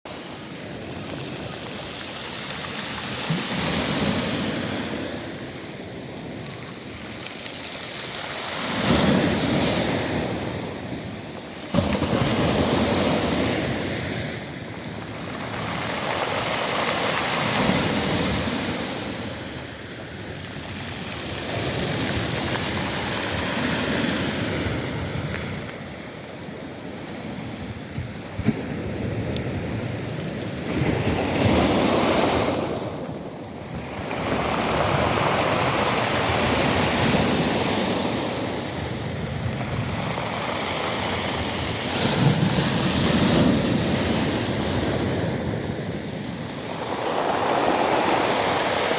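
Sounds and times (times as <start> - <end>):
waves breaking on pebble beach: 0.1 - 48.9.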